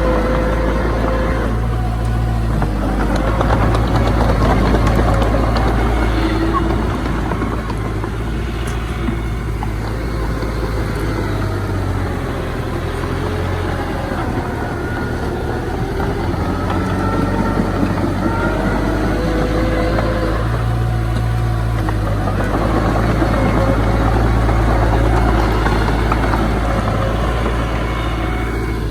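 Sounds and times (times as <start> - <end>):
heavy diesel machinery rumbling: 0.0 - 28.9.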